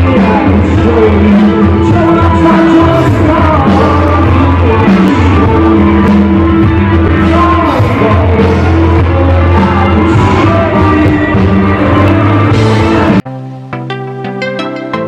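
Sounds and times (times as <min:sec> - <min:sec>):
live rock band with singer: 0:00.0 - 0:13.7.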